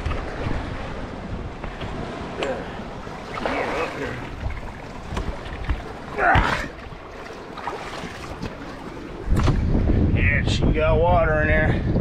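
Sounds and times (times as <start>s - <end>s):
water sloshing against hull: 0.0s - 10.1s
wind buffeting microphone: 0.0s - 12.0s.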